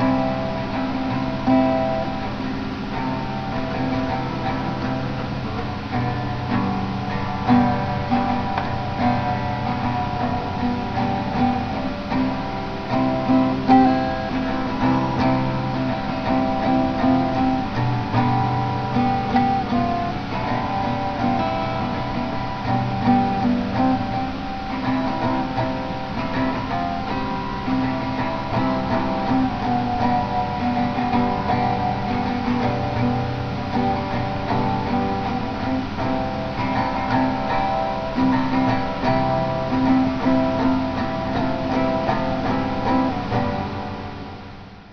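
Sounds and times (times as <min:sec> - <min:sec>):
acoustic guitar music: 0:00.0 - 0:44.9.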